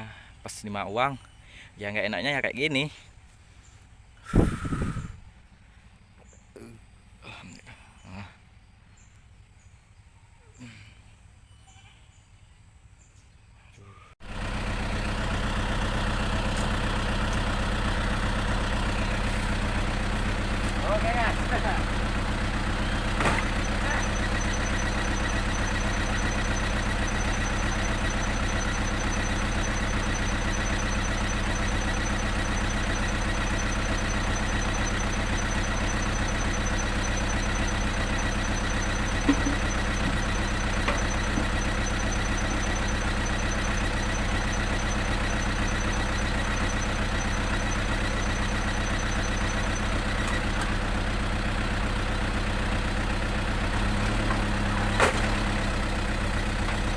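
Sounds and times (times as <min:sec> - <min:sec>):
truck engine idling: 0:00.0 - 0:09.6, 0:14.2 - 0:56.9.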